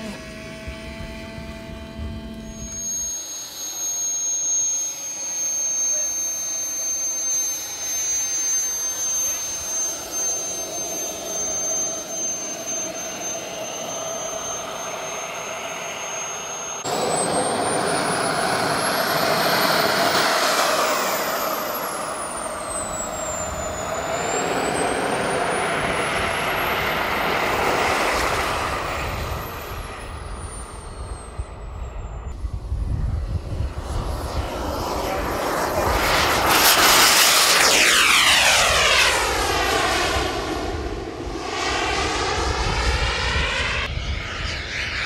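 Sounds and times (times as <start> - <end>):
jet turbine whine: 0.0 - 45.0
turbine spooling up and down: 0.0 - 45.0.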